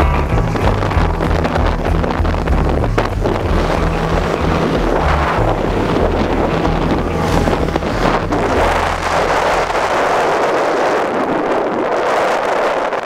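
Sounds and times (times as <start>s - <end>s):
skateboard wheels rolling on asphalt: 0.0s - 13.0s
wind buffeting microphone: 0.0s - 13.0s.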